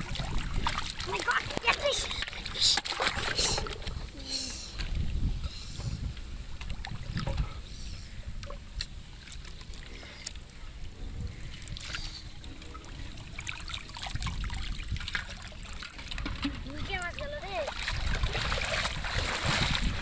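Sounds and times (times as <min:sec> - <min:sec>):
wind rumble on microphone: 0:00.0 - 0:02.5, 0:03.1 - 0:20.0
water splashing and dribbling: 0:00.0 - 0:20.0.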